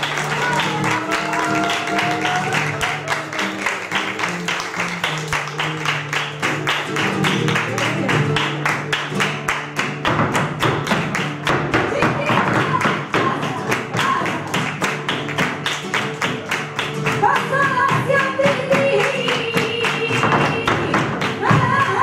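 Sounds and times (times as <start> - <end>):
flamenco guitar playing: 0.0 - 22.0
rhythmic hand-clapping: 0.0 - 22.0.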